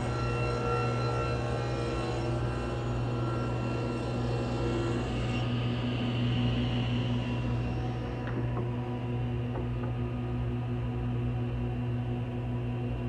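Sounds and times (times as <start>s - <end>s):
woodworking machinery humming: 0.0s - 13.0s.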